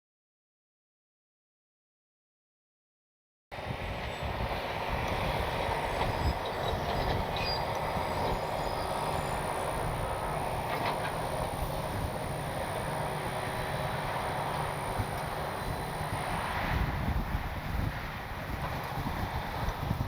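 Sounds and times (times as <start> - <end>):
wind buffeting microphone: 3.6 - 20.0.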